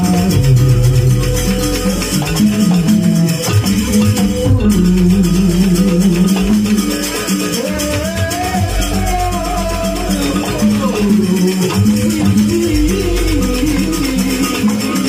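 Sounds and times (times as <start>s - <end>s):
ensemble with percussive beat: 0.0s - 15.0s
sliding melody line: 0.0s - 15.0s.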